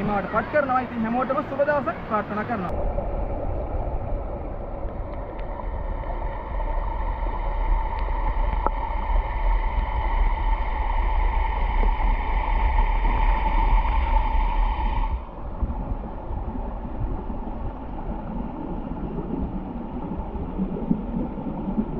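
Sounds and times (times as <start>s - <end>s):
muffled underwater water rushing: 0.0s - 21.9s
steady hum: 0.0s - 21.9s.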